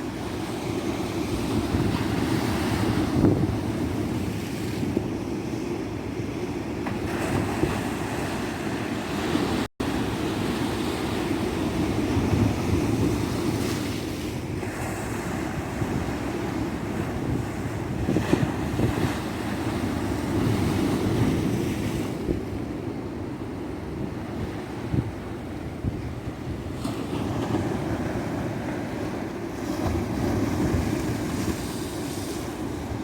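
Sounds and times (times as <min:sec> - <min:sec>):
wind buffeting microphone: 0:00.9 - 0:05.2, 0:10.8 - 0:33.0.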